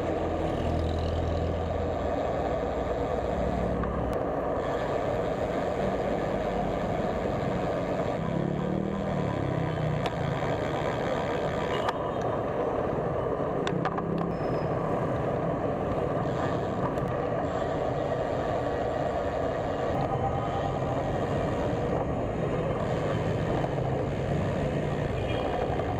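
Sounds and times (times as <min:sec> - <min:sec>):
road traffic: 0:00.0 - 0:25.9
vehicle engines running close by: 0:00.0 - 0:25.9.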